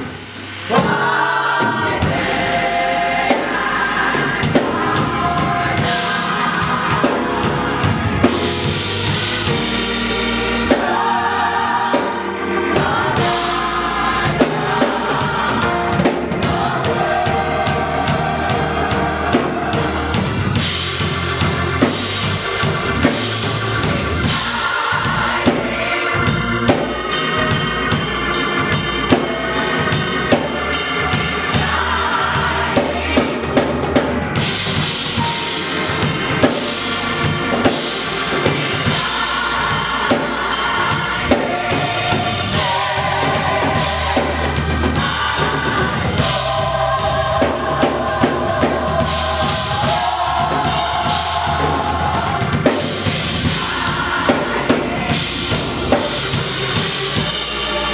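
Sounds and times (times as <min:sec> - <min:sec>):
drum kit beat: 0:00.0 - 0:57.9
gospel choir singing: 0:00.0 - 0:57.9.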